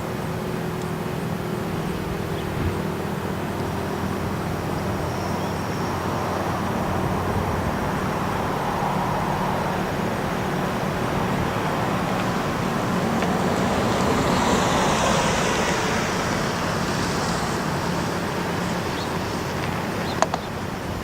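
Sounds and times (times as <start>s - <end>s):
car traffic passing: 0.0s - 21.0s.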